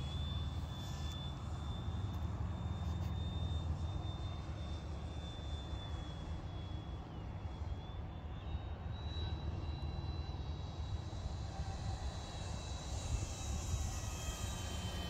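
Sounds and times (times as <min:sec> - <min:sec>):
model plane motor whining: 0:00.0 - 0:07.9, 0:08.5 - 0:15.0.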